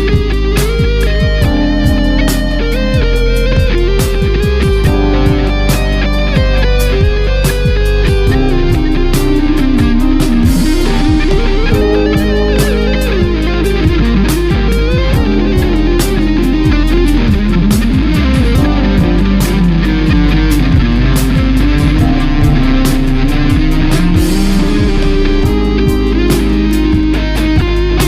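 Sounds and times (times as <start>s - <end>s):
electric guitar lead with vibrato: 0.0s - 28.0s
steady drum beat: 0.0s - 28.0s.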